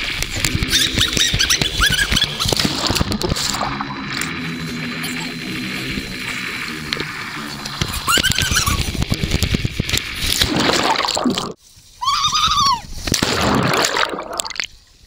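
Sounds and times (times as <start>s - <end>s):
water splashing and sloshing: 0.0s - 11.6s, 13.1s - 14.8s.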